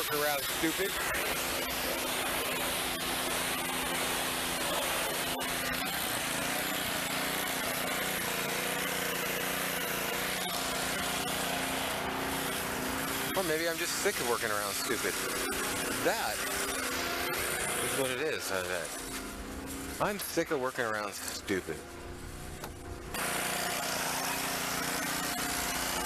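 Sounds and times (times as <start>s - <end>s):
small motor humming: 0.0s - 26.0s.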